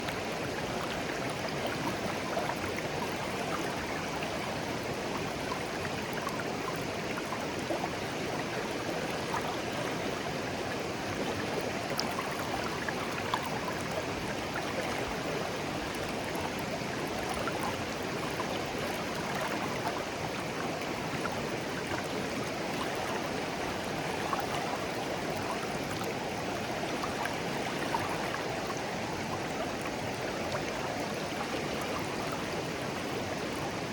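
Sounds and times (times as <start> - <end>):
stream flowing over stones: 0.0 - 33.9.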